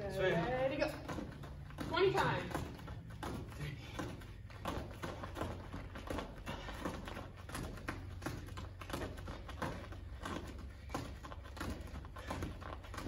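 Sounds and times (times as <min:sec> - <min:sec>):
bare feet slapping foam mats: 0:00.0 - 0:13.0.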